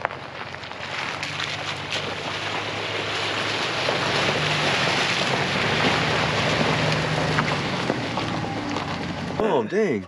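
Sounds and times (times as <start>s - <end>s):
truck engine running: 0.0s - 10.0s
tyres splashing through mud puddles: 0.0s - 10.0s.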